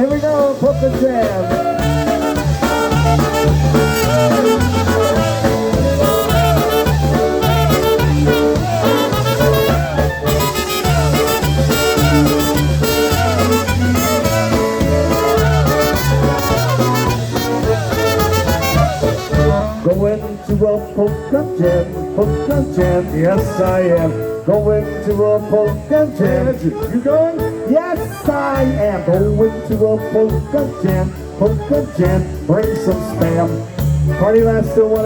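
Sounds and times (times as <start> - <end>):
bass and drum beat: 0.0 - 35.0
brass and reed melody: 0.0 - 35.0
polka band playing: 0.0 - 35.0.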